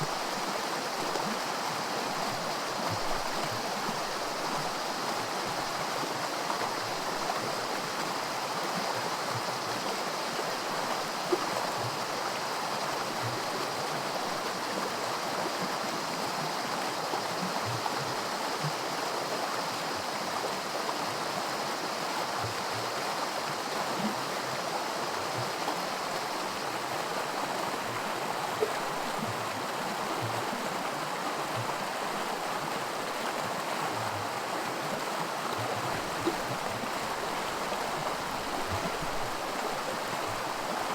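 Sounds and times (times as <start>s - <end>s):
creek rushing over rocks: 0.0s - 40.9s.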